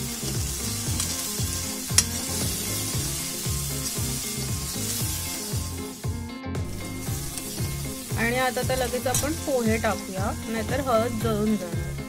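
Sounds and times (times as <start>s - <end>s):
background music with beat: 0.0s - 12.0s
vegetables sizzling in hot oil: 0.0s - 12.0s.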